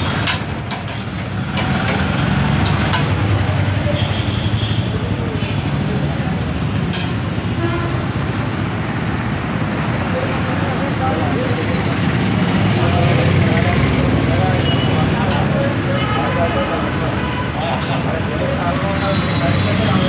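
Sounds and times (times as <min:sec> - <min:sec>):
people chattering: 0:00.0 - 0:20.0
road traffic rumble: 0:00.0 - 0:20.0.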